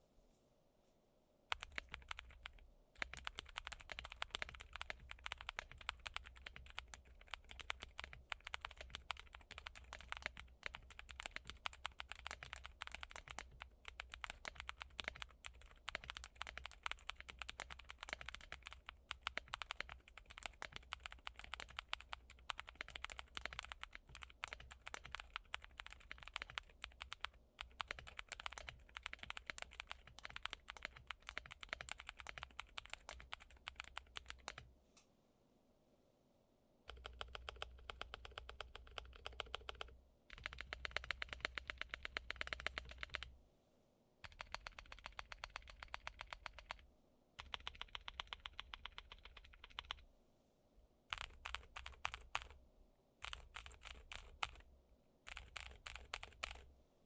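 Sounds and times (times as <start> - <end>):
mechanical keyboard typing: 1.5 - 34.6, 36.9 - 43.3, 44.2 - 46.8, 47.4 - 50.0, 51.1 - 52.6, 53.2 - 54.6, 55.3 - 56.7.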